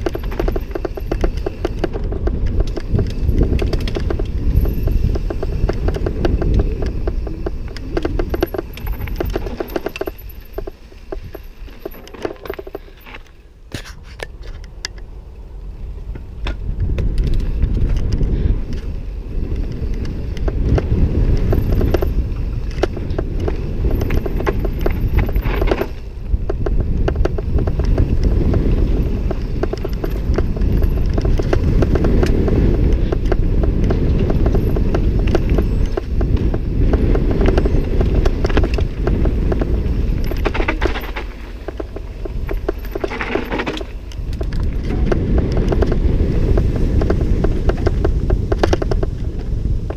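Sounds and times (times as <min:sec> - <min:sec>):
bike chain and frame rattling: 0:00.0 - 0:49.9
tyres crunching over gravel: 0:00.0 - 0:49.9
wind rumble on microphone: 0:00.0 - 0:49.9.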